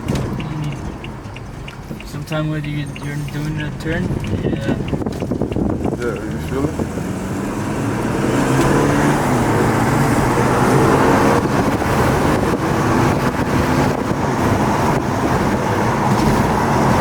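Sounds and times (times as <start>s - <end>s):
car engine: 0.0s - 17.0s
road noise inside car: 0.0s - 17.0s.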